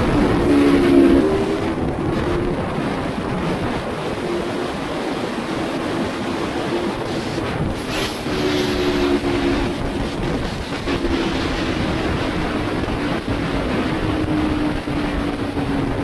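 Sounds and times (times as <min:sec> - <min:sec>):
droning tone: 0:00.0 - 0:16.0
rush of noise: 0:00.0 - 0:16.0.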